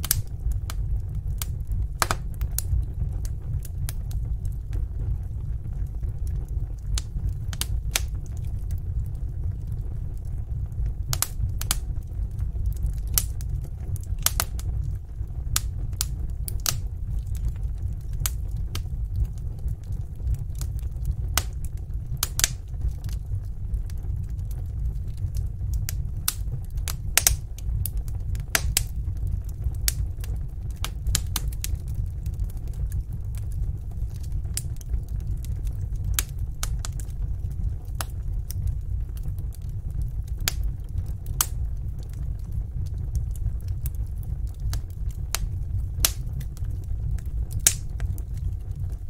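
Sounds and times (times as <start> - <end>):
burning logs crackling and popping: 0.0 - 49.0
low rumble of flames: 0.0 - 49.0.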